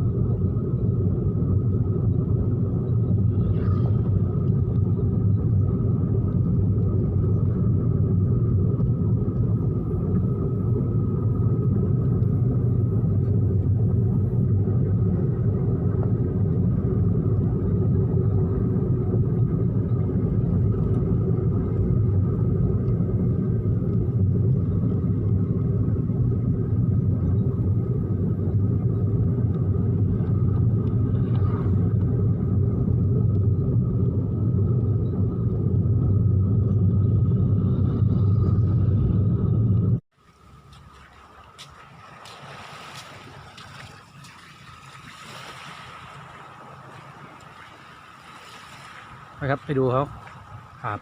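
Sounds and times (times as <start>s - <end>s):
motor vehicle rumble: 0.0s - 51.0s.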